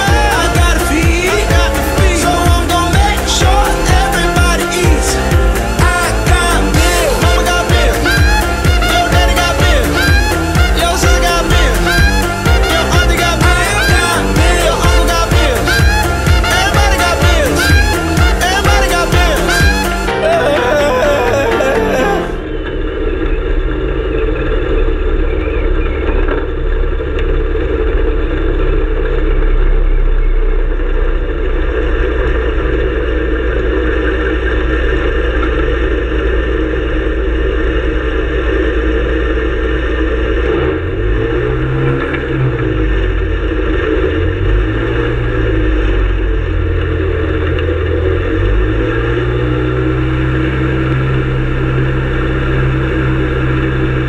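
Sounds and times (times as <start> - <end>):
aircraft engine running: 0.0 - 54.0.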